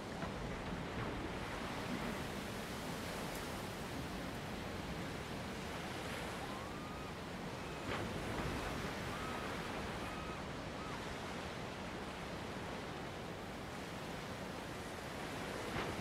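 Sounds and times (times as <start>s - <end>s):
sea surf against rocks: 0.0s - 16.0s
wind: 0.0s - 16.0s.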